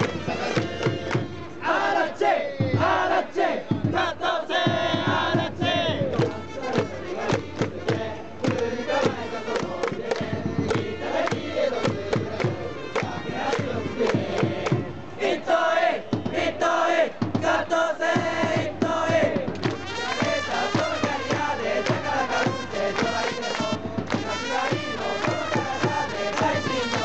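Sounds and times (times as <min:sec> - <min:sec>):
crowd chanting in unison: 0:00.0 - 0:27.0
crowd singing held melody: 0:00.0 - 0:27.0
rapid rhythmic beats: 0:00.0 - 0:27.0.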